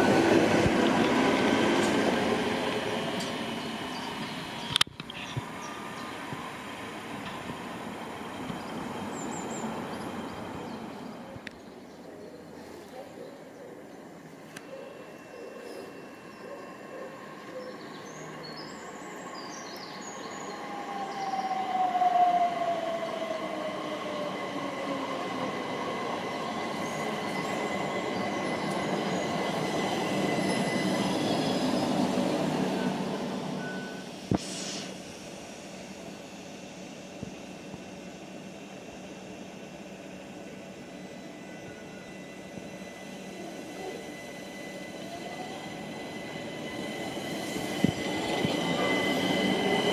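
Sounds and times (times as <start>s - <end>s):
train equipment hum: 0.0s - 49.9s.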